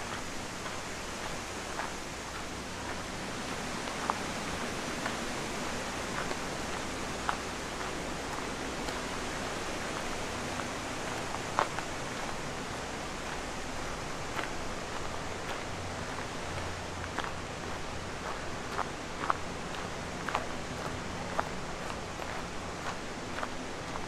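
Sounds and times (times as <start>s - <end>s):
flowing water: 0.0s - 24.0s.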